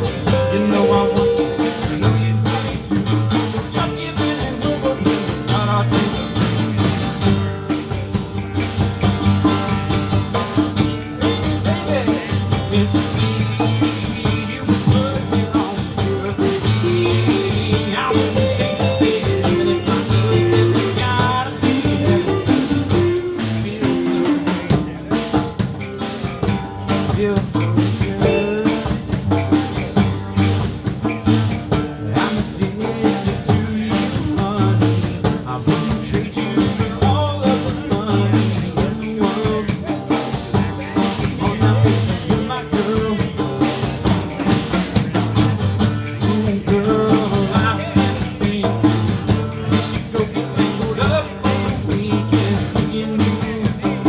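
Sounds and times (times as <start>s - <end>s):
drum kit beat: 0.0s - 54.0s
live blues band playing: 0.0s - 54.0s.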